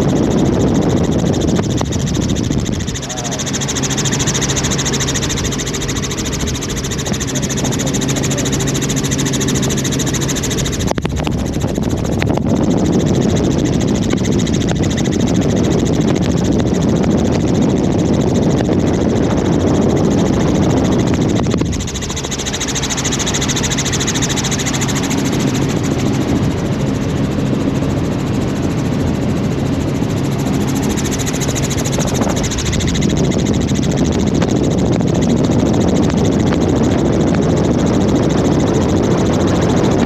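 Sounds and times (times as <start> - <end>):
helicopter rotor and engine drone: 0.0 - 40.0.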